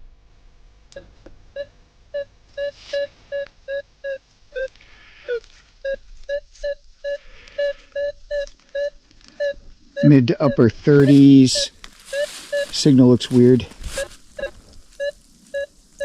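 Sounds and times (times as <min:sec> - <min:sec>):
metal detector beeping: 0:01.6 - 0:04.7, 0:05.3 - 0:15.8.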